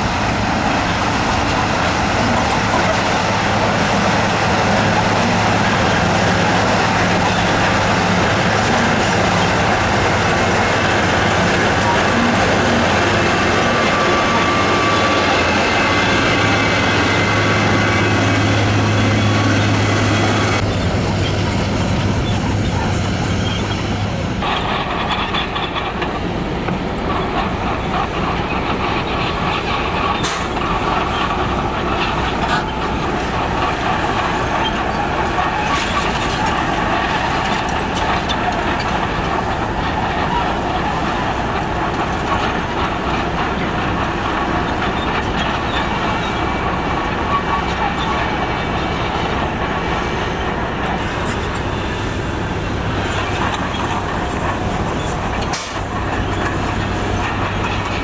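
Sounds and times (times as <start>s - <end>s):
heavy machinery engine hum: 0.0s - 58.0s.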